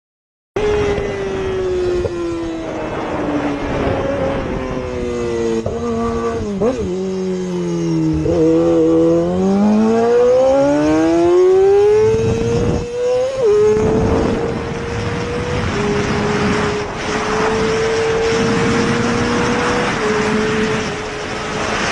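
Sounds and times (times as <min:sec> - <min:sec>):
motorcycle engine revving: 0:00.6 - 0:21.9.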